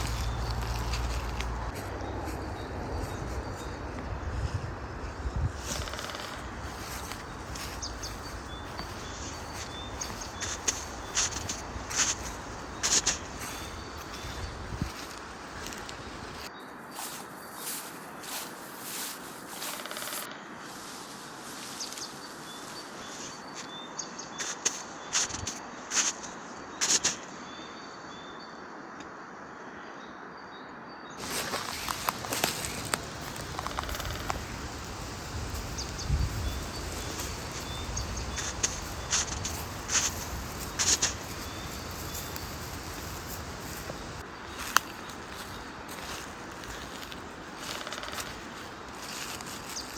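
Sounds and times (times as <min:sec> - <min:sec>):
faint bird chirps: 0:00.0 - 0:20.3, 0:29.6 - 0:49.9
footsteps on forest floor: 0:00.0 - 0:27.2, 0:31.2 - 0:49.9
rustles: 0:00.0 - 0:27.4, 0:31.2 - 0:49.9
steady outdoor background noise: 0:00.0 - 0:49.9.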